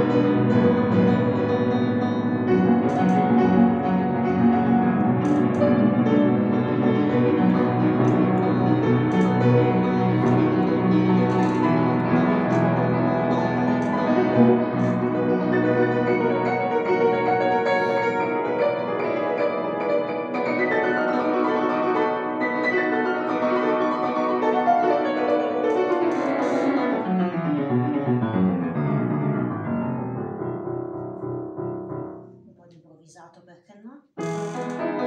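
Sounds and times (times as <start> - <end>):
upright piano playing: 0.0 - 32.4, 34.2 - 35.0.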